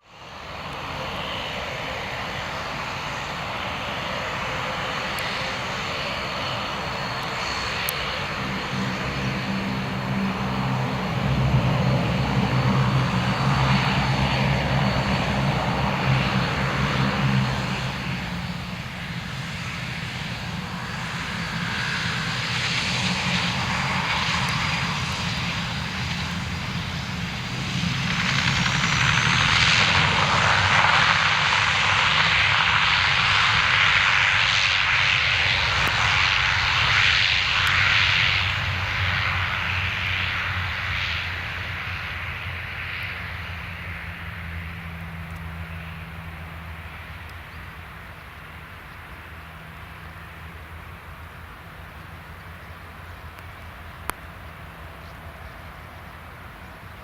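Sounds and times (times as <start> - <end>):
turboprop engines and propellers: 0.0 - 57.0.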